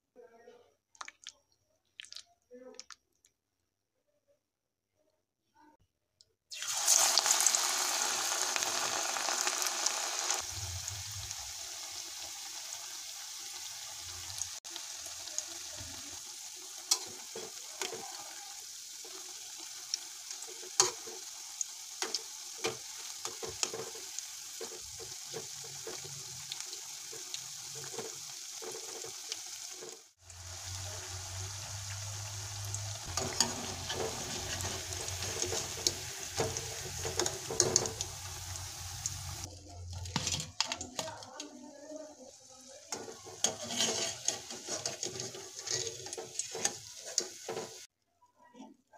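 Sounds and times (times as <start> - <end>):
oil crackling and popping: 1.0 - 3.4, 6.5 - 41.8, 42.7 - 47.9
batter sizzling in hot oil: 6.5 - 40.3, 41.0 - 47.9.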